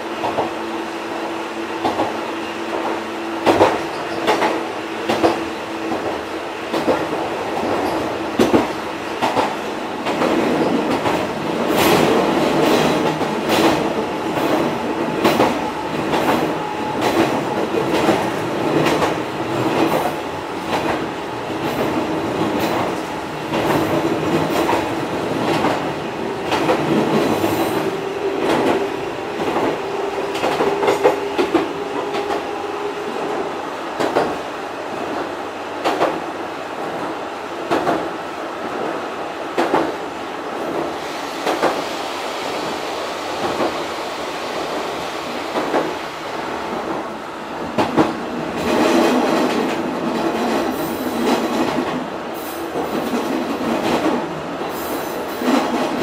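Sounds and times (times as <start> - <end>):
train wheels clacking on rail joints: 1.8 - 33.4, 34.0 - 34.4, 35.1 - 36.2, 36.9 - 38.1, 39.5 - 40.0, 40.6 - 41.9, 45.5 - 46.1, 47.7 - 56.0.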